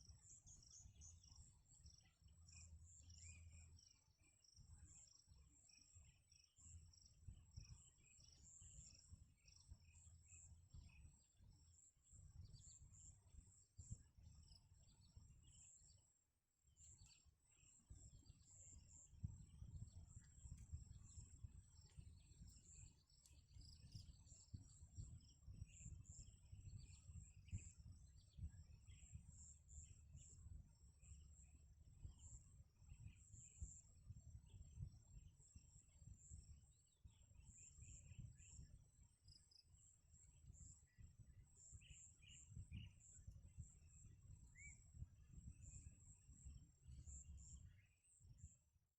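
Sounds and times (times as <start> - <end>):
wind rumble on microphone: 0.0 - 48.8.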